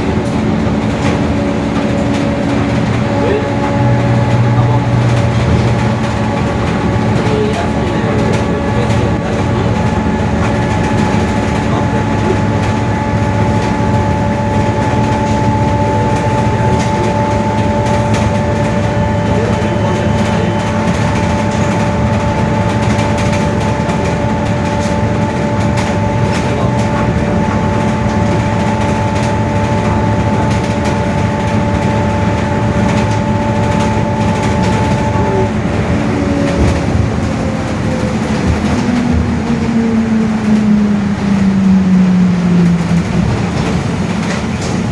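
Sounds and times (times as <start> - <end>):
bus differential gear whine: 0.0 - 44.9
bus engine rumble: 0.0 - 44.9.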